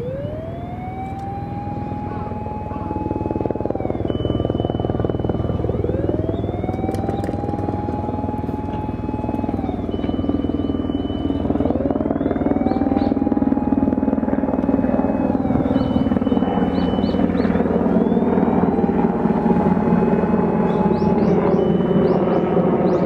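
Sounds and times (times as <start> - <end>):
electronic siren wailing: 0.0 - 23.0.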